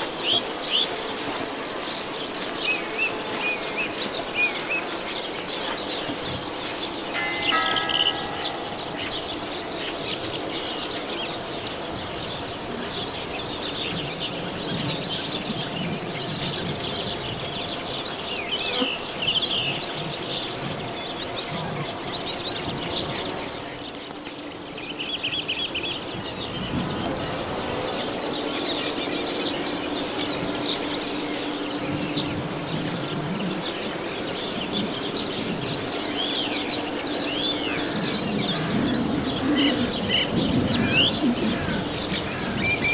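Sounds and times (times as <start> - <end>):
bees humming: 0.0 - 42.9
songbirds chirping: 0.0 - 42.9.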